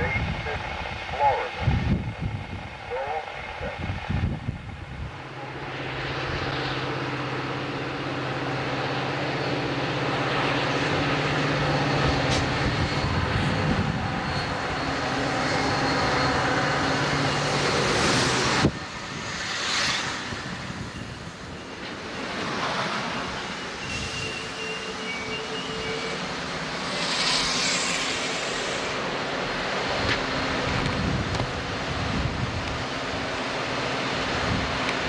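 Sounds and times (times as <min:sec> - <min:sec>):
diesel locomotive engine drone: 0:00.0 - 0:35.0
passenger cars rolling on rails: 0:00.0 - 0:35.0.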